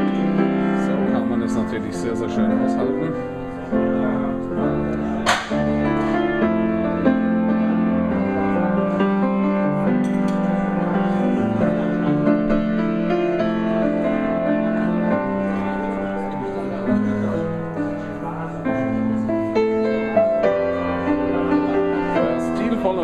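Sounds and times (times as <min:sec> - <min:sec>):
grand piano slow chords: 0:00.0 - 0:23.0.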